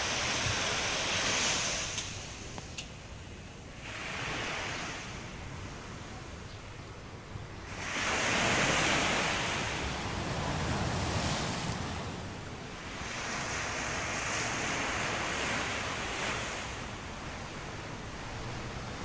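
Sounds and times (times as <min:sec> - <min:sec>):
small waves breaking on beach: 0:00.0 - 0:02.8, 0:03.6 - 0:06.4, 0:07.0 - 0:19.0
wind rumble on microphone: 0:00.0 - 0:19.0.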